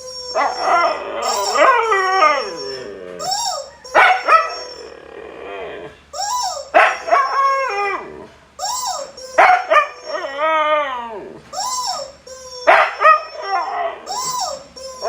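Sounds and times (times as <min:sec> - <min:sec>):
dog howling: 0:00.0 - 0:15.0.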